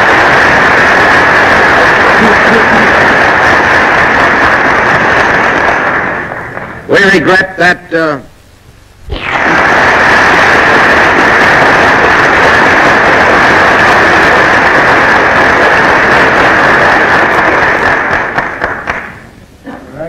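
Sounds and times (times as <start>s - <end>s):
audience applauding: 0.0s - 6.8s, 9.2s - 19.3s.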